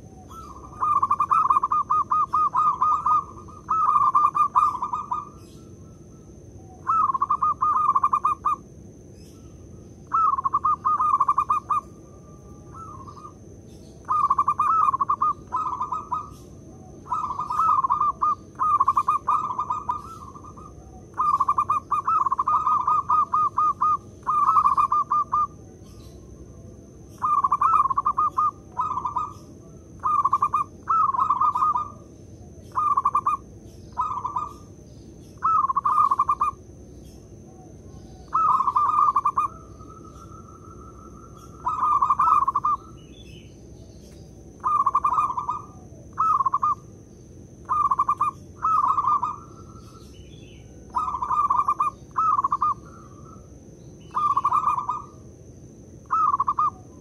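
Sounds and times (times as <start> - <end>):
dove cooing: 0.0 - 8.7, 9.3 - 47.0, 47.6 - 55.4, 56.0 - 57.0.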